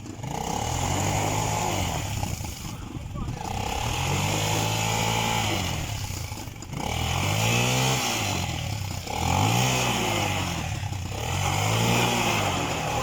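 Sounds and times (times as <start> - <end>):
off-road vehicle engines revving: 0.0 - 13.0.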